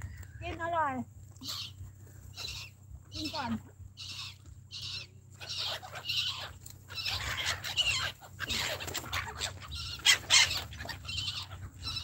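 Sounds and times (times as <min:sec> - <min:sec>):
low steady rumble: 0:00.0 - 0:12.0
gulls squawking: 0:01.4 - 0:12.0.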